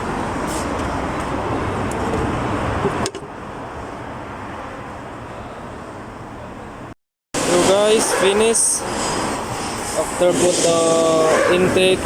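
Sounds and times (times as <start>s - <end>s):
traffic: 0.0s - 12.0s
workshop rumble and hiss: 0.0s - 12.0s.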